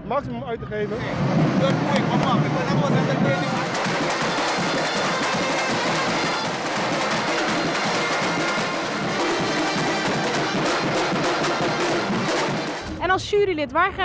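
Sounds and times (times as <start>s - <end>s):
marching drum band playing: 0.9s - 13.0s.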